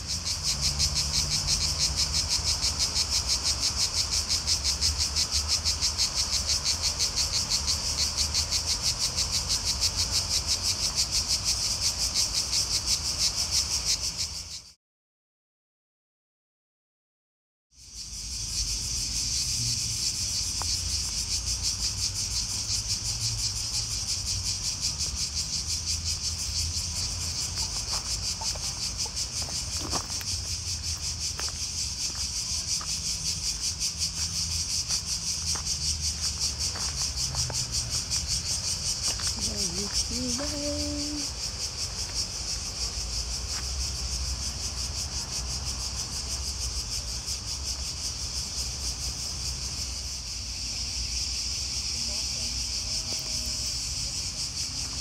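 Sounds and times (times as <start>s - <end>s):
insects buzzing: 0.0s - 14.7s, 17.8s - 55.0s.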